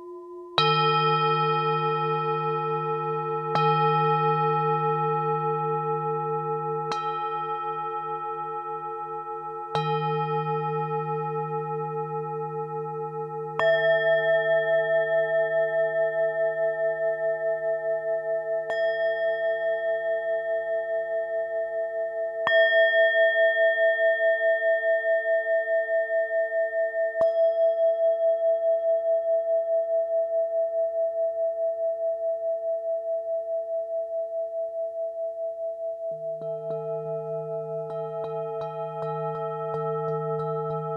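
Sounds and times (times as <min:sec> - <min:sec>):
singing bowl ringing: 0:00.0 - 0:30.2, 0:34.2 - 0:40.9.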